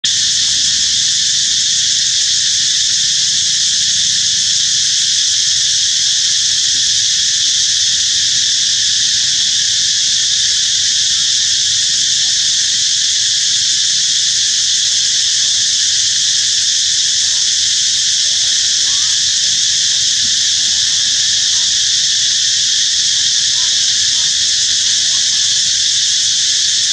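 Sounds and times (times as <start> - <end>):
insects droning: 0.0 - 26.9.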